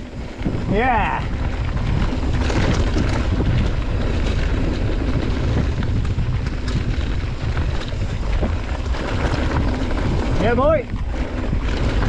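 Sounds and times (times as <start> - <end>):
bike rattles and clicks: 0.0 - 12.0
wind rumbling on microphone: 0.0 - 12.0.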